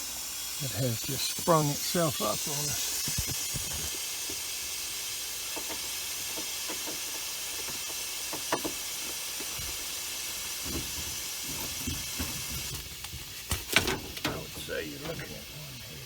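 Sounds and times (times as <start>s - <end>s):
refrigerant gas hissing from leak: 0.0s - 16.0s.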